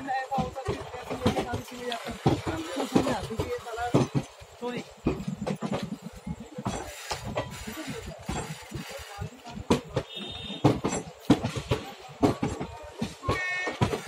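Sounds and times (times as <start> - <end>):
train wheels clacking over rail joints: 0.0 - 14.0.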